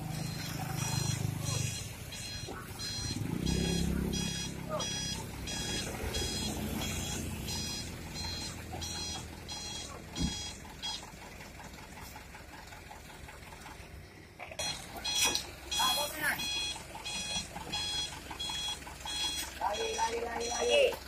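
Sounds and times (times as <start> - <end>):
reversing alarm beeping: 0.0 - 11.1, 14.6 - 21.0
diesel engine running low: 0.0 - 21.0.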